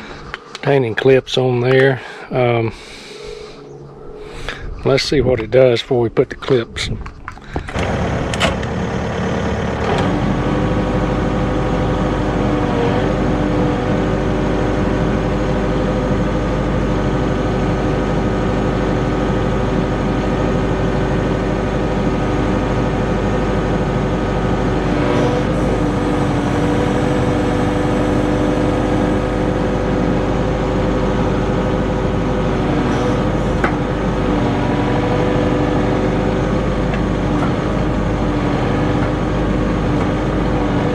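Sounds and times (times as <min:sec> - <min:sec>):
excavator engine and hydraulics: 0:00.0 - 0:40.9.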